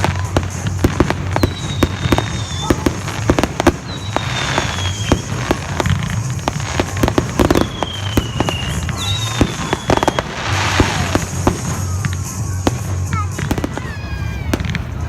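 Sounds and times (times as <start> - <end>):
fireworks whistles sliding down: 0.0 - 12.1
fireworks bangs and crackles: 0.0 - 15.0.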